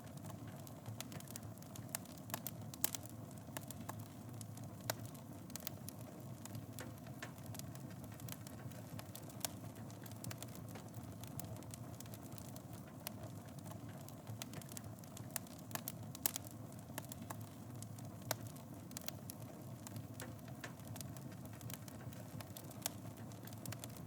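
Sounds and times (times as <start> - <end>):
wood fire crackling: 0.0 - 24.0
sharp pops from fire: 0.2 - 24.0.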